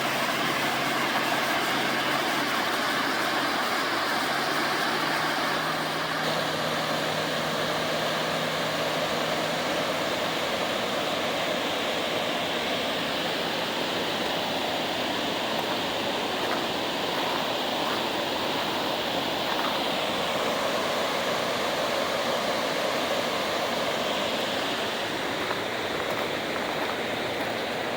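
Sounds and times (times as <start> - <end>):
waterfall roaring: 0.0 - 27.9.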